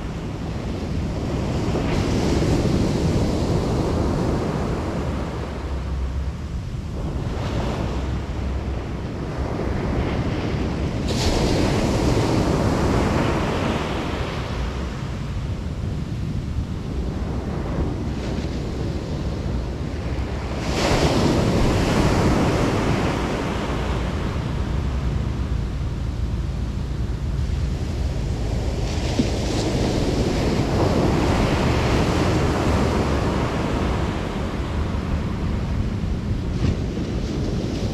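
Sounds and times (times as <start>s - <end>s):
ocean waves breaking: 0.0s - 37.9s
wind buffeting microphone: 0.0s - 37.9s.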